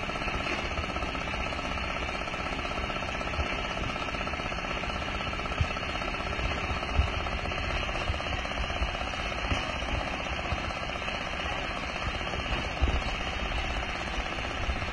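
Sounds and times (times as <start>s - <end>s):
concrete mixer engine running: 0.0s - 14.9s.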